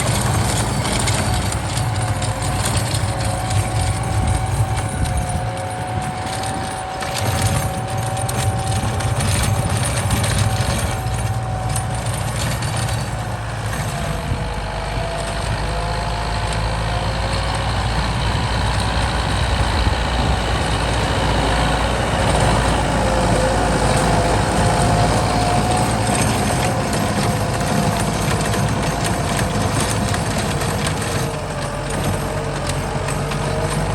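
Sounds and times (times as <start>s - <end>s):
engine whine: 0.0s - 33.9s
tractor diesel engine rumble: 0.0s - 33.9s.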